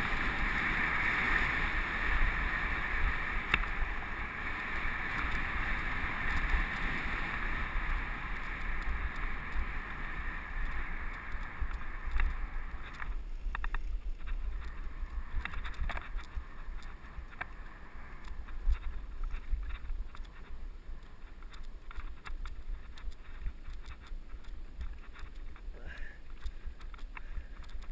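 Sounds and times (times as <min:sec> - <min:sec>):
bike clicks and rattles: 0:00.0 - 0:27.9
bike tyre rumble: 0:00.0 - 0:27.9
steady hiss: 0:00.0 - 0:27.9.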